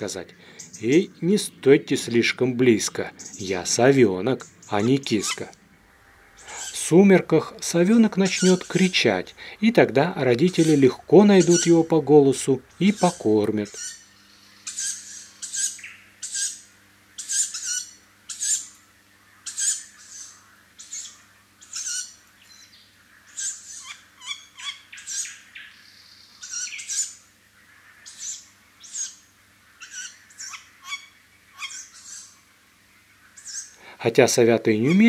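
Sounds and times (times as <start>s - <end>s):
owl fledgling hissing begging call: 0.0s - 1.6s, 2.8s - 3.8s, 4.4s - 5.6s, 6.3s - 7.0s, 7.7s - 32.4s, 33.1s - 34.2s.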